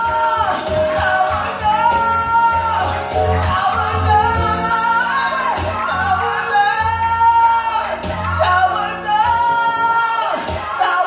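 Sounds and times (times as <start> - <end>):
instrumental backing with bass: 0.0 - 11.0
woman singing with vibrato: 0.0 - 11.0.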